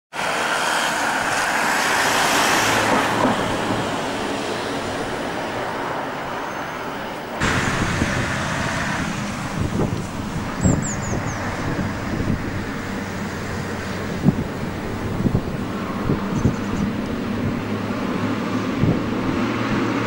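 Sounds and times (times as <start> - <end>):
road traffic roar: 0.1 - 20.0.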